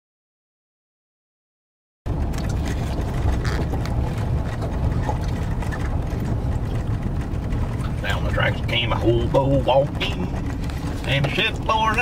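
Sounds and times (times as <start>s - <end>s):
vehicle driving on dirt road: 2.1s - 12.0s.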